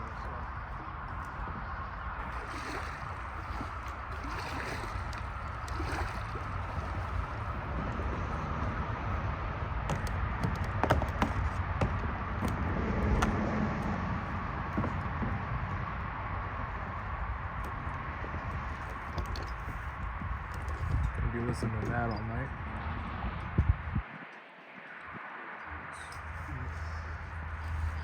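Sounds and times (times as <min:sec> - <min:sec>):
water lapping around kayaks: 0:00.0 - 0:28.0.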